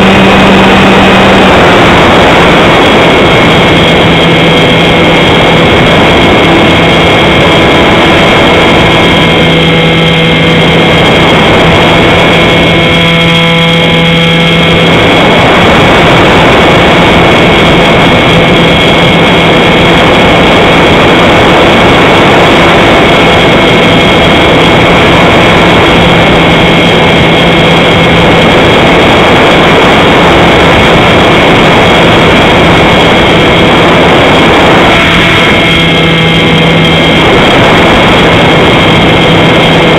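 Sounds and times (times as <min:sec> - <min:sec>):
model airplane motor and propeller: 0:00.0 - 0:39.9
wind rush: 0:00.0 - 0:39.9.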